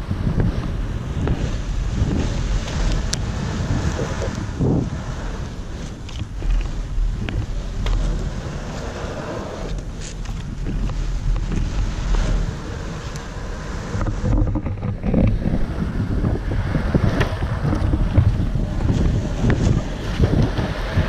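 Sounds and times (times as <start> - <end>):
skateboard wheels rolling on asphalt: 0.0 - 21.0
wind buffeting microphone: 0.0 - 21.0.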